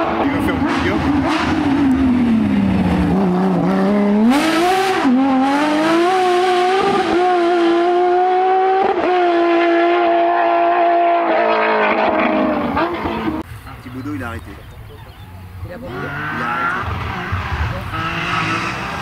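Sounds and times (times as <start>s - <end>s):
rally car engine revving: 0.0s - 13.4s, 15.9s - 19.0s.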